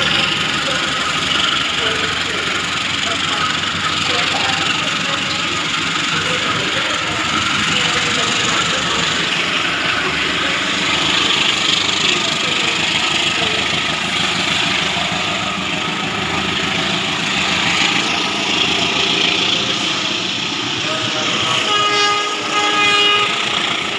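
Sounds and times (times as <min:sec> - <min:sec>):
large engine running: 0:00.0 - 0:23.9.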